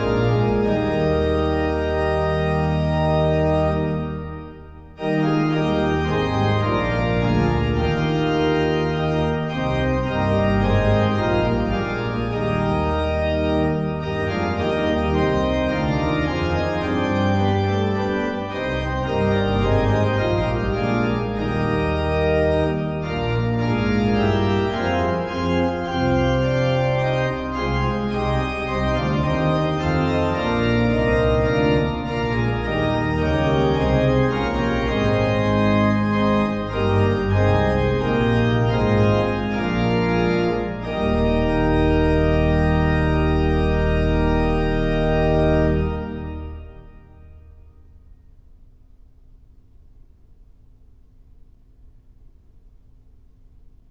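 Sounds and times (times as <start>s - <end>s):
organ playing slow chords: 0.0s - 50.5s.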